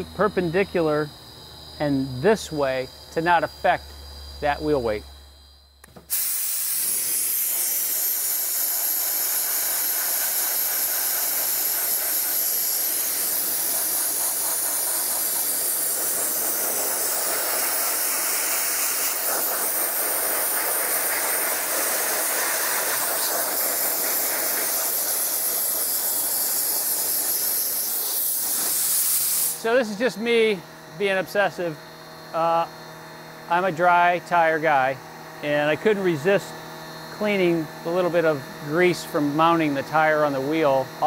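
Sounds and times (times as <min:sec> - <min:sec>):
dry ice blaster hissing: 0:00.0 - 0:41.0.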